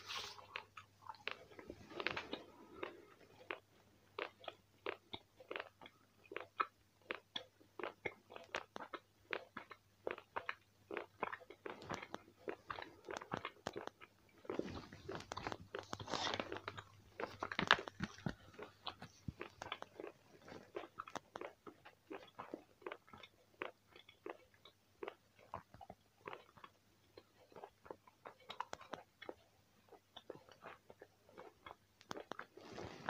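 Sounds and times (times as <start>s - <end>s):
close chewing clicks: 0.2s - 32.6s.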